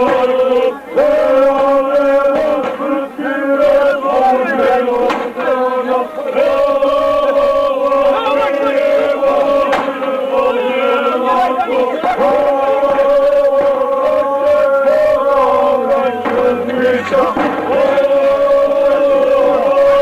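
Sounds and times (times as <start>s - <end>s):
men chanting in long notes: 0.0s - 20.0s.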